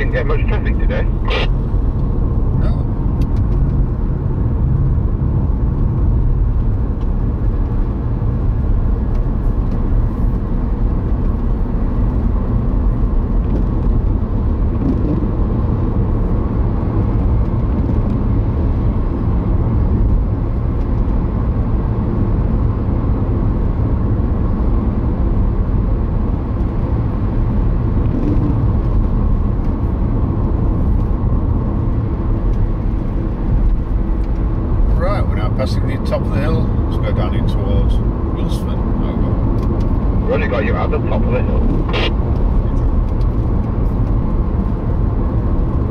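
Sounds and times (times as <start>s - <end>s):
car cabin road and engine noise: 0.0s - 45.9s.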